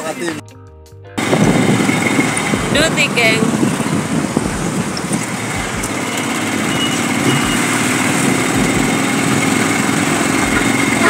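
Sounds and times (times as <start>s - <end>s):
road and traffic noise: 1.2s - 11.0s
small engine running: 1.2s - 11.0s.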